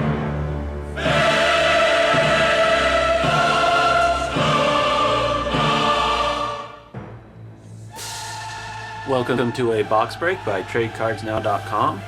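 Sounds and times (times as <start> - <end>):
choir singing sustained chords: 0.0 - 12.0
orchestral backing: 0.0 - 12.0.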